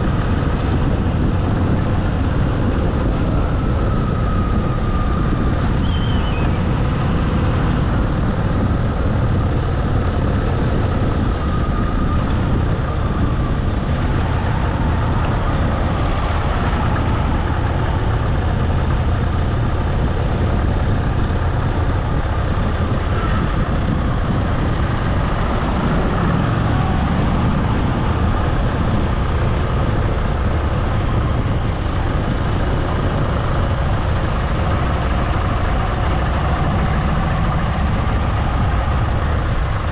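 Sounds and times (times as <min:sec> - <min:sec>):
motorcycle engine running: 0:00.0 - 0:39.9
road and rushing air noise: 0:00.0 - 0:39.9.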